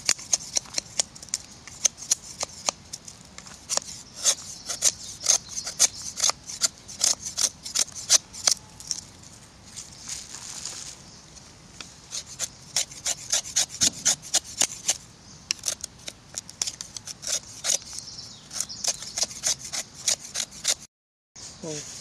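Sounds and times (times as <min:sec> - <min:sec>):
knife scraping wood: 0:00.0 - 0:09.1, 0:12.1 - 0:20.9.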